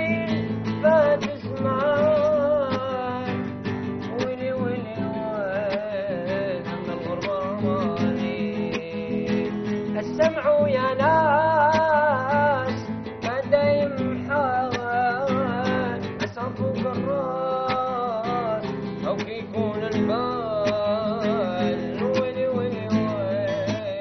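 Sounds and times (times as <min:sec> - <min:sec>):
classical guitar plucked: 0:00.0 - 0:24.0
man singing slow melody: 0:00.0 - 0:24.0.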